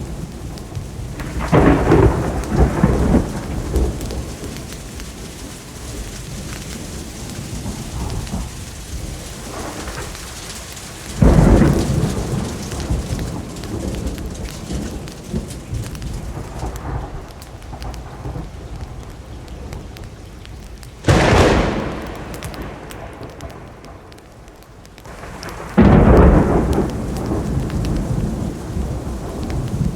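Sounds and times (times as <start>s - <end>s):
steady rainfall: 0.0s - 29.9s
thunder claps rumbling: 0.0s - 29.9s.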